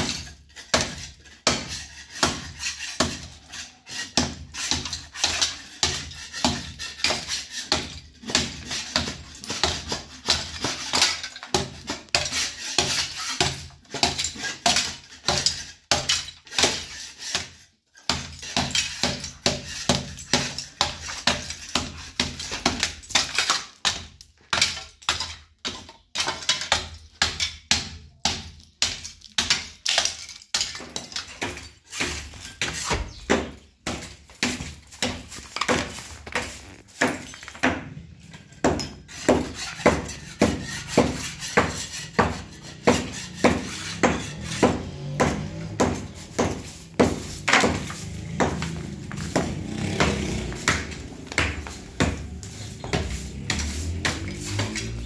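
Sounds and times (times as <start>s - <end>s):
broom sweeping rubble: 0.0s - 55.0s
hammer knocking plaster off wall: 0.0s - 55.0s.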